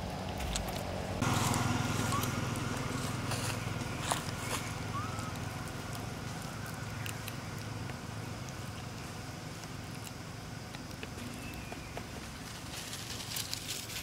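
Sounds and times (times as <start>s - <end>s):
low roadside rumble: 0.0s - 14.0s.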